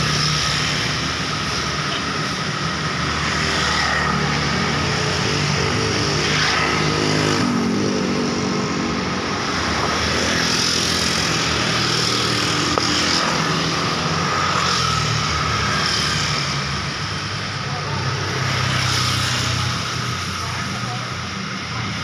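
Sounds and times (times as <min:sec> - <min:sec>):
motor vehicles passing: 0:00.0 - 0:22.0.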